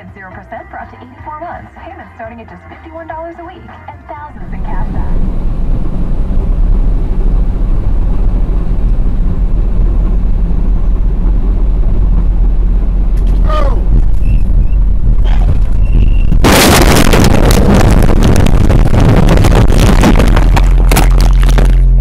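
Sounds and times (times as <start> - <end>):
engine and tyre rumble: 4.3 - 22.0.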